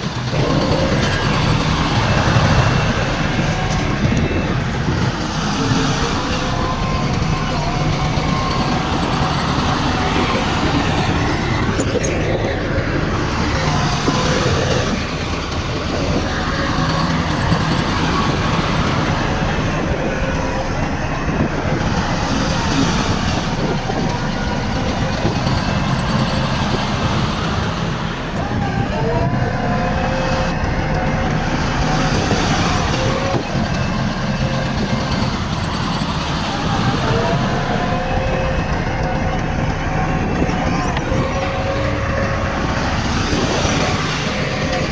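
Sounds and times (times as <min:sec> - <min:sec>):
bulldozer diesel engine running: 0:00.0 - 0:44.9
high whining tones: 0:00.0 - 0:44.9.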